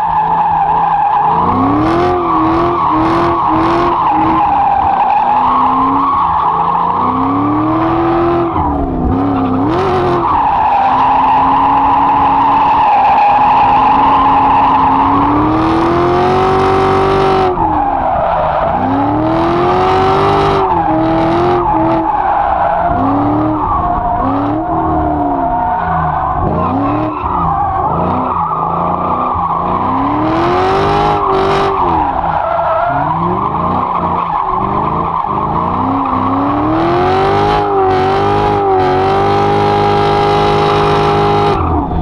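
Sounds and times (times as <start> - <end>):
car engine revving: 0.0 - 42.0
tyres skidding: 0.0 - 42.0.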